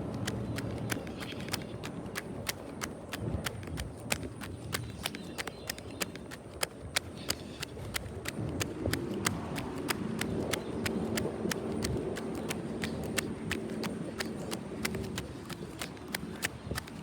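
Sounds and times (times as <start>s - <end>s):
low engine hum: 0.0s - 17.0s
steady ticking: 0.0s - 17.0s.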